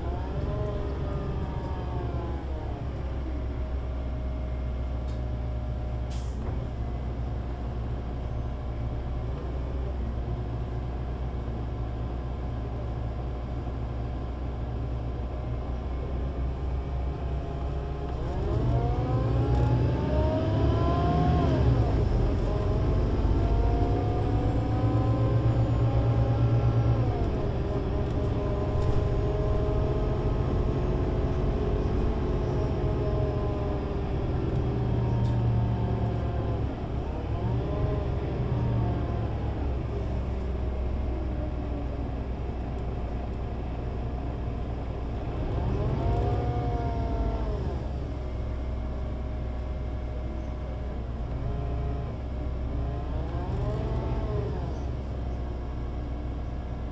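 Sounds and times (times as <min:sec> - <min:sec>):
bus engine: 0:00.0 - 0:56.9.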